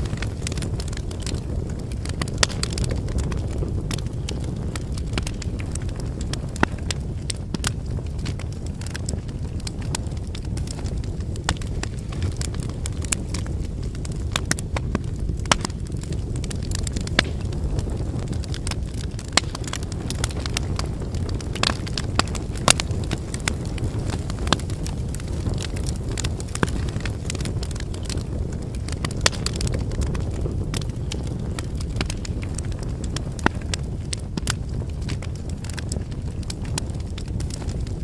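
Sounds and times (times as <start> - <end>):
firewood crackling and popping: 0.0 - 38.0
low rumble of flames: 0.0 - 38.0.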